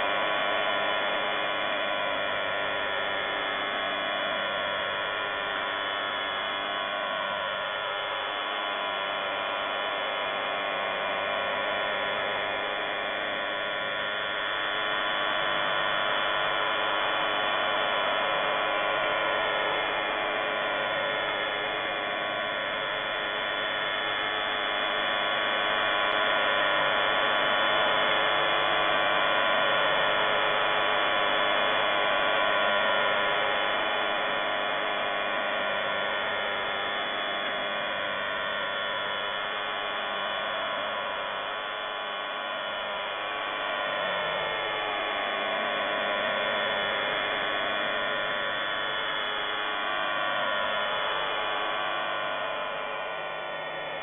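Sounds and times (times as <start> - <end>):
buzzing radio drone: 0.0 - 54.0.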